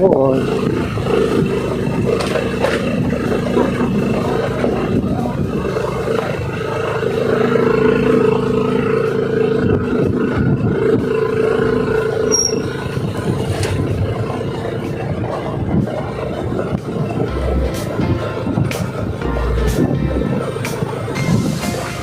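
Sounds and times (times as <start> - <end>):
scooter engine droning: 0.0 - 22.0.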